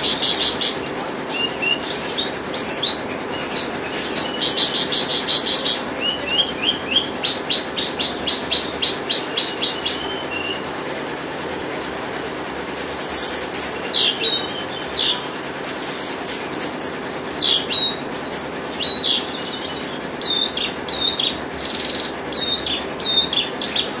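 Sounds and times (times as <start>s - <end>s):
lark singing trills and whistles: 0.0s - 24.0s.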